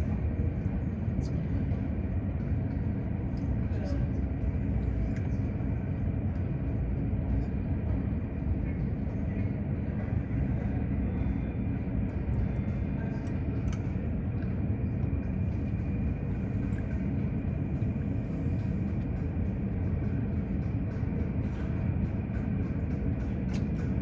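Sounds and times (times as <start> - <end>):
jet aircraft rumble: 0.0 - 24.0.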